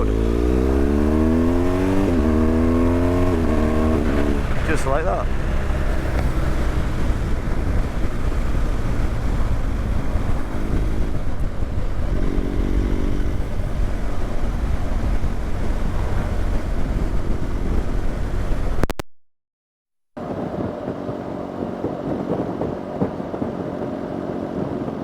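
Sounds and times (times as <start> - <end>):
wind rumble on microphone: 0.0 - 18.8, 20.2 - 25.0
motorcycle engine riding: 0.0 - 19.0, 20.2 - 25.0.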